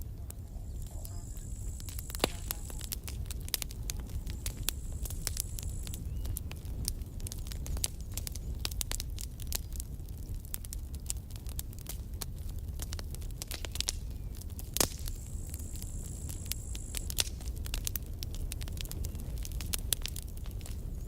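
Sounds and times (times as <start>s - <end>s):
campfire wood crackling: 0.0s - 21.0s
low rumble of flame: 0.0s - 21.0s.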